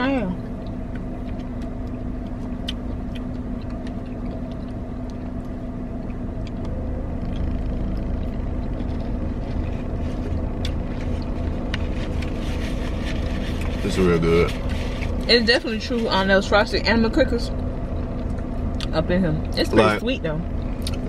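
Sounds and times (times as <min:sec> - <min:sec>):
idling car hum inside cabin: 0:00.0 - 0:21.0.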